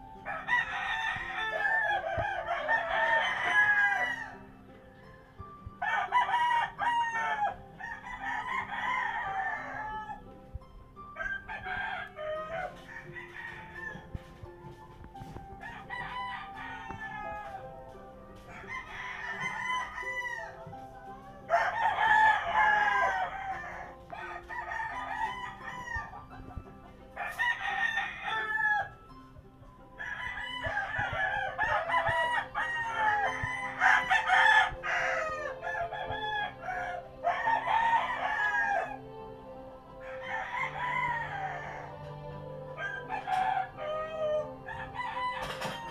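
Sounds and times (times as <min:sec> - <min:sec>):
roosters crowing: 0:00.0 - 0:45.9.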